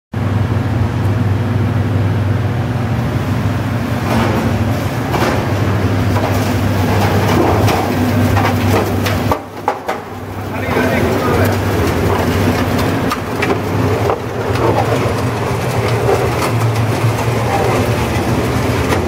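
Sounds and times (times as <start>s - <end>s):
motor and gearbox hum: 0.2s - 19.0s.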